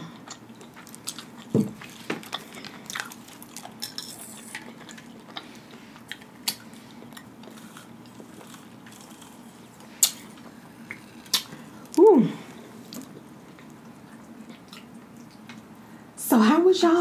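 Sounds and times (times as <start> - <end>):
person chewing food: 0.0 - 15.8.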